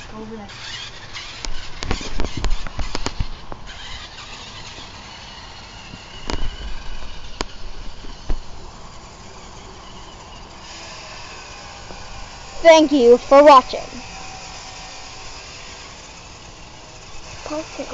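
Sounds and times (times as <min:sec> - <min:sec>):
faint high whine: 0:00.0 - 0:17.9.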